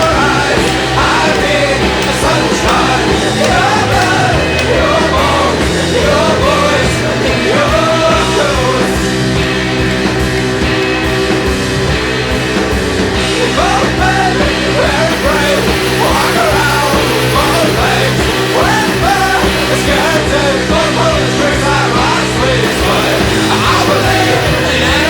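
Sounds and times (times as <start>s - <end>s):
rock music with driving beat: 0.0s - 25.0s.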